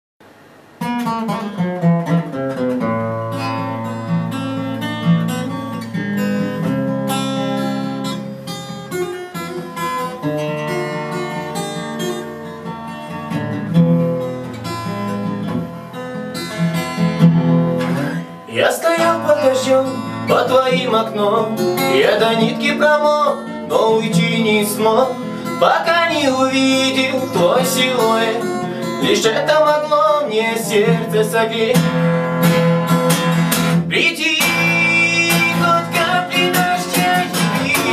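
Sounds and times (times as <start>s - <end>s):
acoustic guitar picking and strumming: 0.2s - 37.9s.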